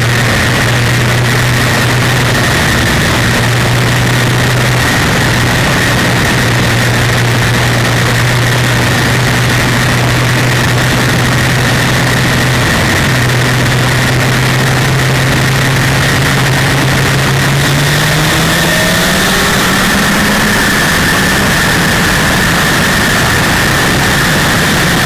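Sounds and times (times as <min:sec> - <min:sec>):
race car engine running hard: 0:00.0 - 0:25.0
wind noise: 0:00.0 - 0:25.0.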